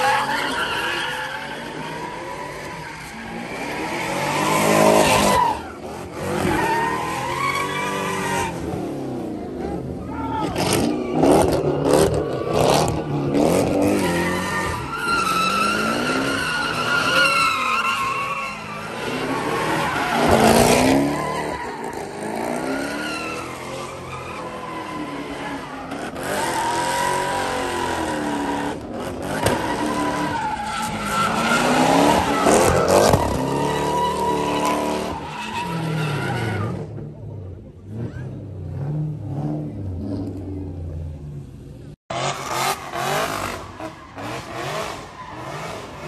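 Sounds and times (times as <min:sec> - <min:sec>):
tyres squealing on asphalt: 0:00.0 - 0:37.1, 0:42.1 - 0:46.0
car engines revving: 0:00.0 - 0:46.0.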